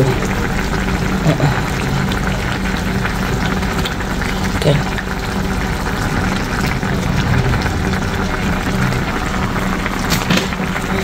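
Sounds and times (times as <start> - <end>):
curry bubbling in a wok: 0.0 - 11.0.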